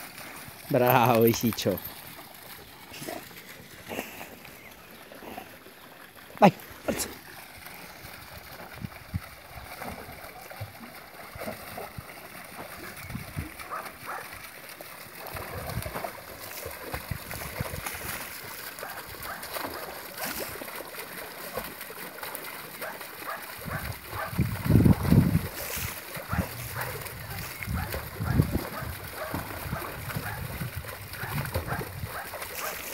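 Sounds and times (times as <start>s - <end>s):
dog splashing in water: 6.2s - 32.9s.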